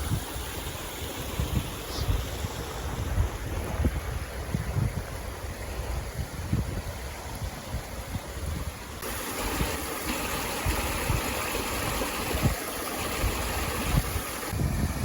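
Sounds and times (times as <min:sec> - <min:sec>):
wind gusting on microphone: 0:00.0 - 0:15.0.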